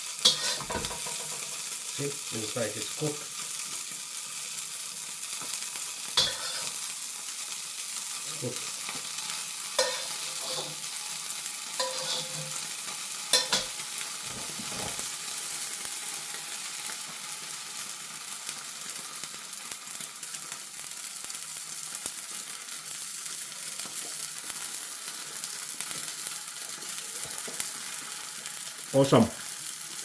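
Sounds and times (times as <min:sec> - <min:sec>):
oil sizzling in a frying pan: 0:00.0 - 0:30.0.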